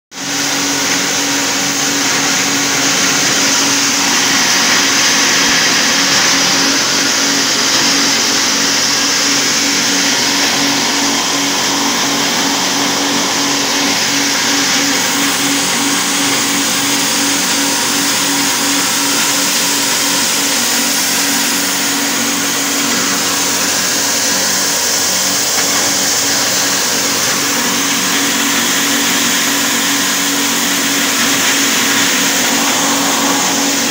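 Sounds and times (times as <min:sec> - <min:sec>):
grinding mill grinding: 0:00.1 - 0:33.9
motor hum: 0:00.1 - 0:33.9.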